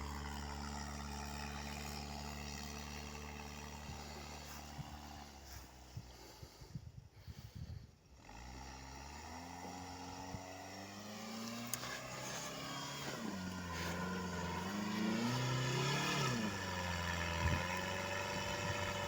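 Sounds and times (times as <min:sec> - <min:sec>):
vehicle engine labouring: 0:00.0 - 0:19.0.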